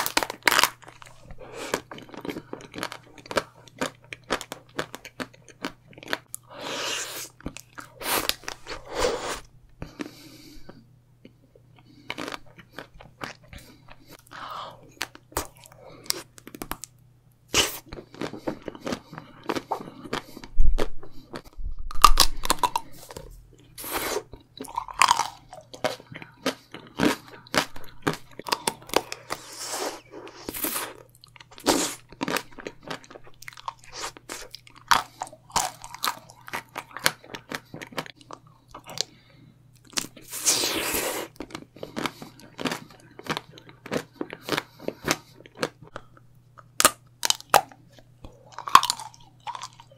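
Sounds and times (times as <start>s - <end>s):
chewing: 0.0s - 6.5s, 11.8s - 16.9s, 17.6s - 49.9s.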